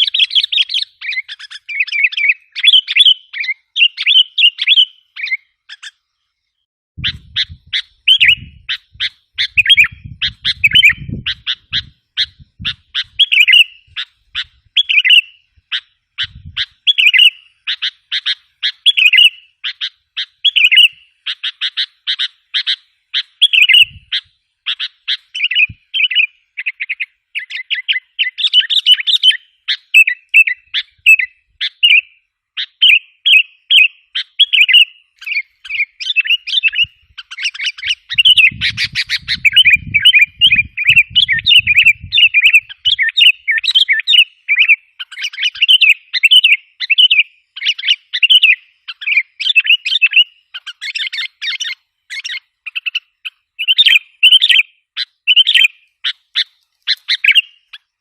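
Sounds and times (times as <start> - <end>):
bulbul chirping: 0.0 - 6.0, 7.0 - 57.9.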